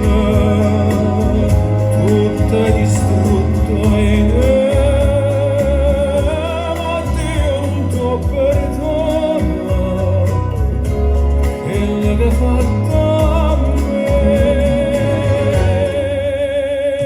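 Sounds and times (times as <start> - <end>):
song playing from vinyl record: 0.0 - 17.0.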